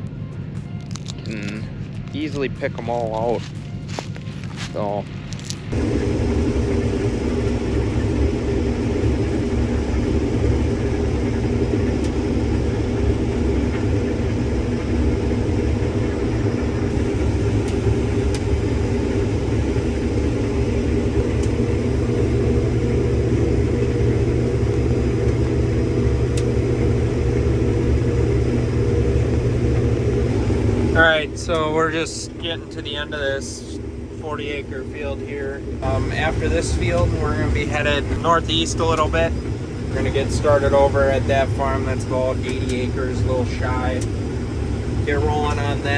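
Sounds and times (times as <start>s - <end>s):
combine harvester drone: 0.0s - 45.9s.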